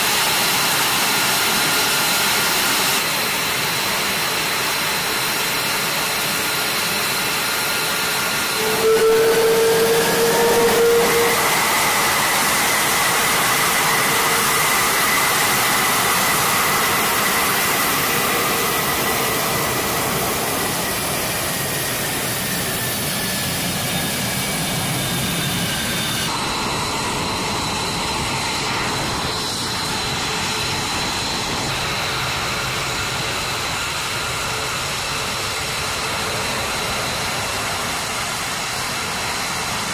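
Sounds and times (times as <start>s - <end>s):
jet engine high whine: 0.0s - 39.9s
jet engines rushing: 0.0s - 39.9s.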